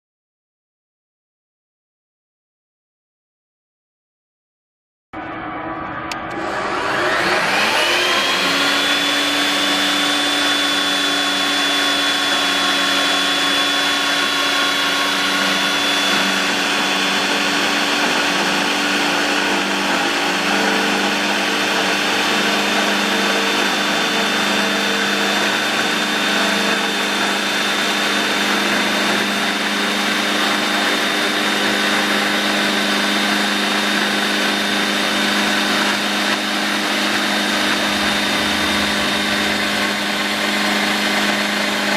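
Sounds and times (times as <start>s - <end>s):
band saw whining: 5.2s - 30.8s, 31.4s - 41.9s.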